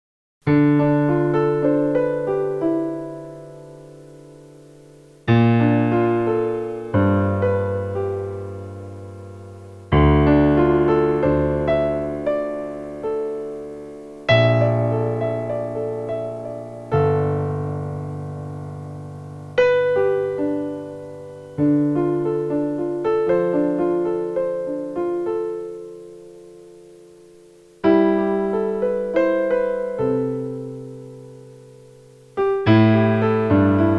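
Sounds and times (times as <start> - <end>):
solo piano playing slow piece: 0.4 - 33.9.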